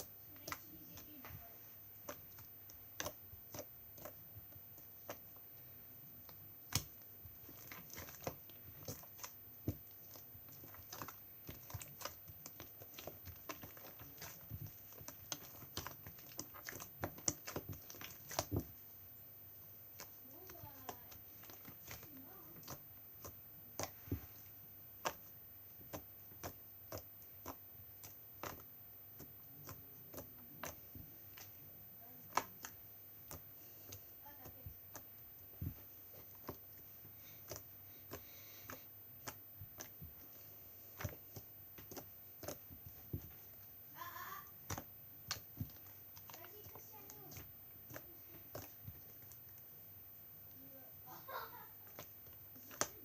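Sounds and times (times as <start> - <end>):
slime clicking and popping: 2.0 - 5.4, 6.2 - 18.8, 19.9 - 31.6, 32.2 - 49.7, 51.1 - 53.0.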